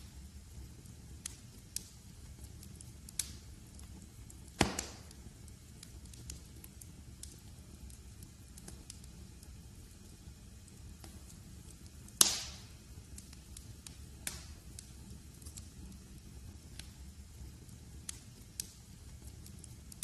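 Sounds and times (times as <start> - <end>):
low steady rumble: 0.0 - 20.0
wood fire crackling: 0.0 - 20.0.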